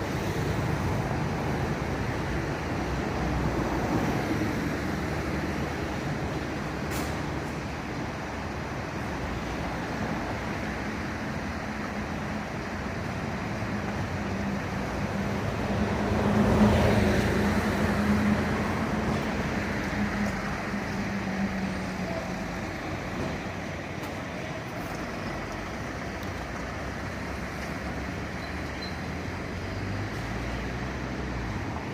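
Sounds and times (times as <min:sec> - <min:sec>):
road traffic noise: 0:00.0 - 0:31.9.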